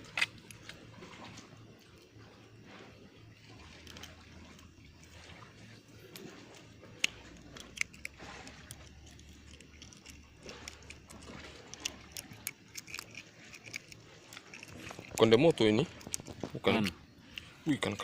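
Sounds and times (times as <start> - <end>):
fish being handled clicks and rustles: 0.0 - 2.2, 3.3 - 18.0.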